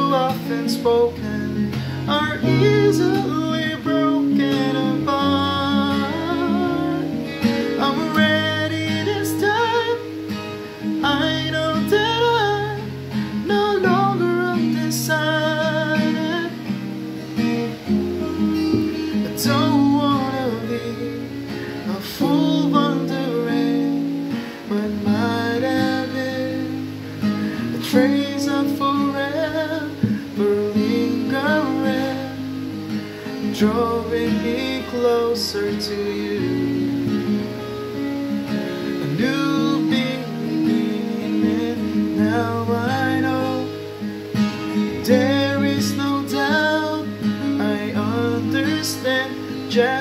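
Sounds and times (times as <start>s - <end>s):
man singing: 0.0s - 16.9s, 18.8s - 37.4s, 38.8s - 50.0s
acoustic guitar strumming: 0.0s - 50.0s.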